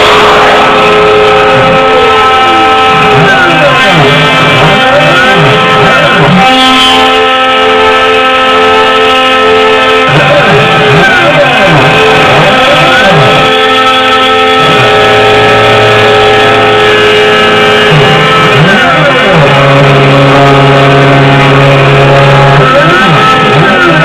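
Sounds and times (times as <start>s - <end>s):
music with sweeping tones: 0.0s - 24.0s.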